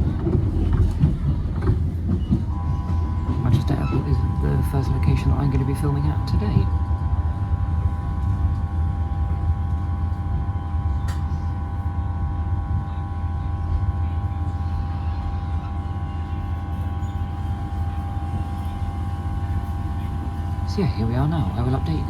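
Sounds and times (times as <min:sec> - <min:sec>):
train interior low rumble: 0:00.0 - 0:22.0.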